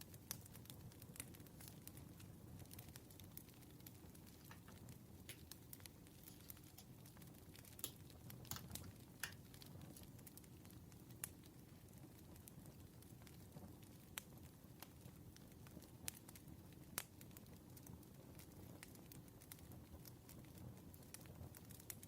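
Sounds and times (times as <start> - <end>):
low rumble of burning wood: 0.0 - 22.0
campfire pops and snaps: 0.1 - 22.0.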